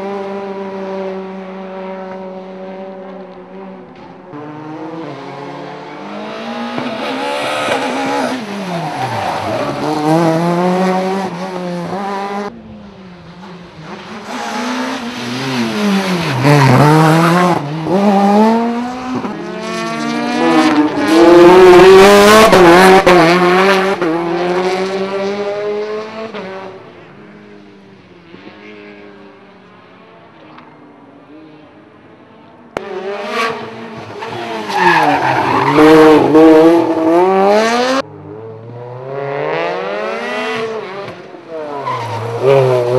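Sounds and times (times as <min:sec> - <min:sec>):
rally cars passing: 0:00.0 - 0:42.9.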